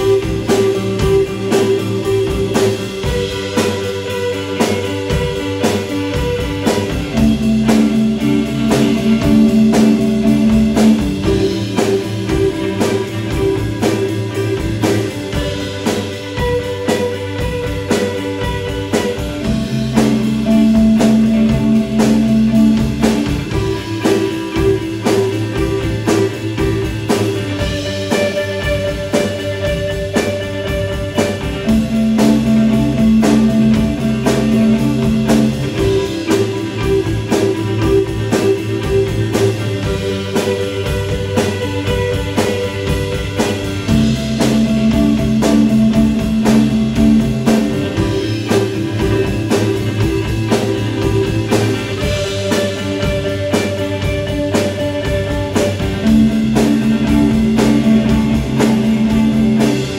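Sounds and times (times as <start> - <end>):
distorted electric guitar chords: 0.0 - 59.9
steady drum beat: 0.0 - 59.9.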